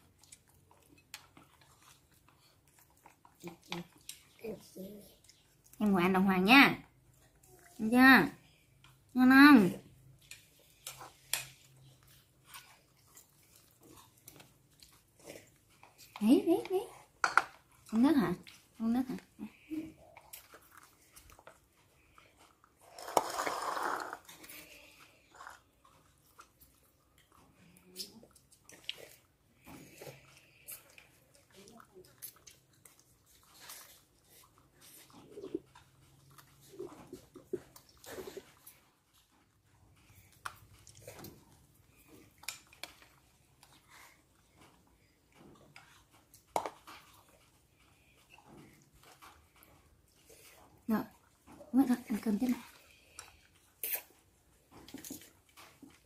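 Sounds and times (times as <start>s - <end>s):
monkey slurping water: 0.0s - 5.9s, 6.9s - 56.0s.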